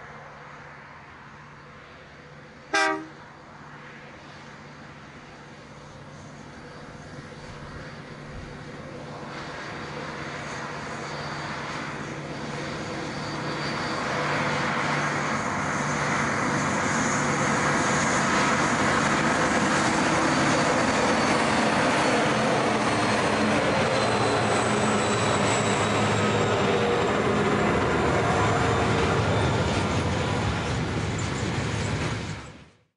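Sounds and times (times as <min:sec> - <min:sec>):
diesel locomotive engine drone: 0:00.0 - 0:32.9.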